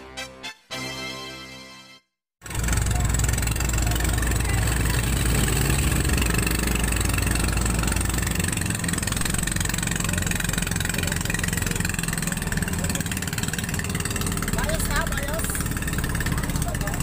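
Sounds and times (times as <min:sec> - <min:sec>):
boat engine droning: 0:02.4 - 0:17.0.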